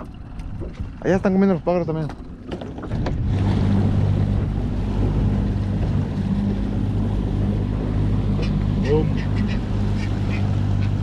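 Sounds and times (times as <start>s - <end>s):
outboard motor running: 0.0s - 11.0s
water noise from moving boat: 0.0s - 11.0s
wind: 0.0s - 11.0s.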